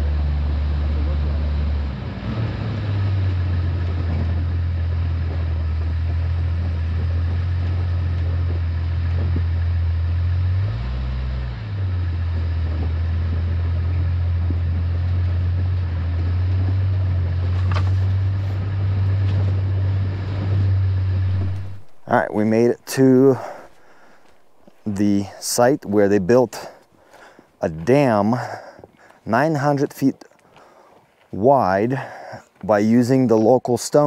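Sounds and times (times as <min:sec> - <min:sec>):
car engine droning while driving: 0:00.0 - 0:29.8.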